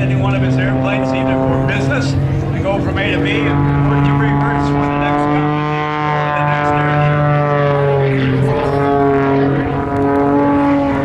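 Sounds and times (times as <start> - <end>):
propeller plane engine buzzing: 0.0 - 11.0.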